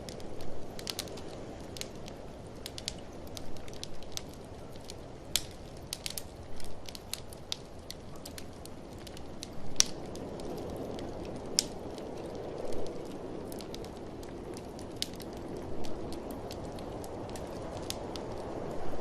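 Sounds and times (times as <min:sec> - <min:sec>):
blizzard wind rushing: 0:00.0 - 0:19.0
wood fire crackling: 0:00.0 - 0:19.0.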